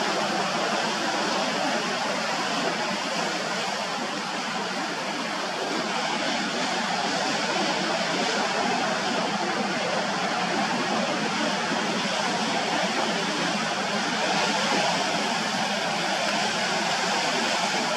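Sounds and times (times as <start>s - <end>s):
sea surf rushing: 0.0s - 17.9s.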